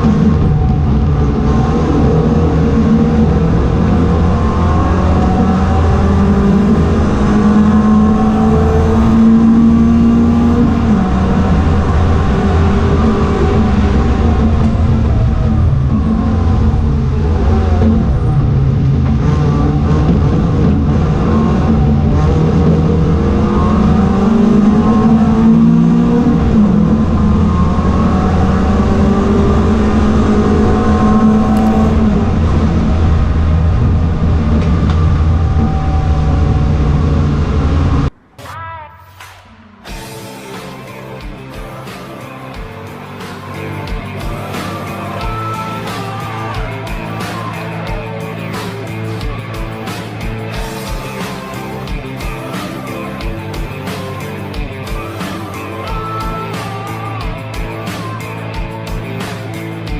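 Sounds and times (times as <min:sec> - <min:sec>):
race car engine revving: 0:00.0 - 0:38.4, 0:39.2 - 0:59.9.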